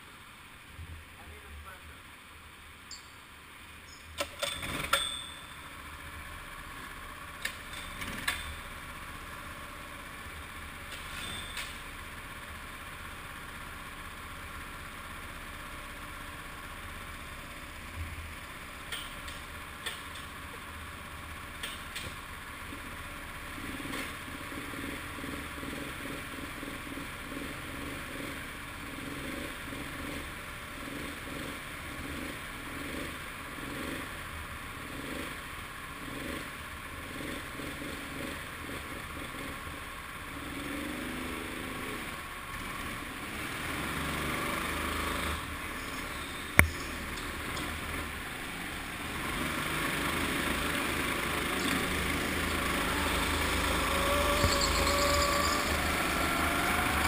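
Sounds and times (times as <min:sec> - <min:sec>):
go-kart engines idling: 0:00.0 - 0:57.0
kart engine running: 0:04.2 - 0:57.0.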